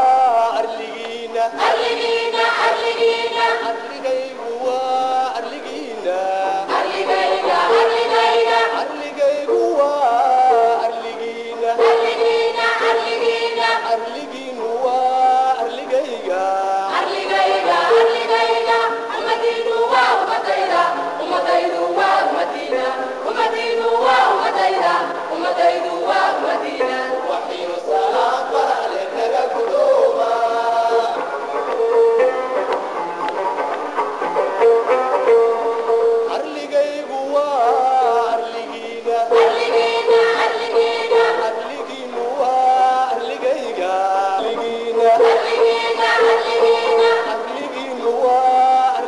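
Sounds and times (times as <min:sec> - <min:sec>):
choir singing: 0:00.0 - 0:31.8, 0:36.3 - 0:49.0.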